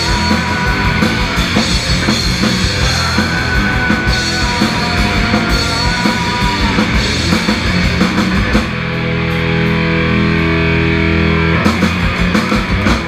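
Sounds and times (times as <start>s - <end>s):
bass guitar: 0.0s - 13.0s
drums: 0.0s - 13.0s
electric guitar: 0.0s - 13.0s.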